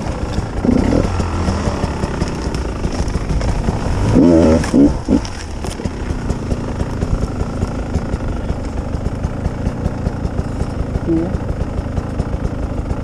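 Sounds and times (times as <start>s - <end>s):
motorcycle engine blipped and idling: 0.0s - 13.0s.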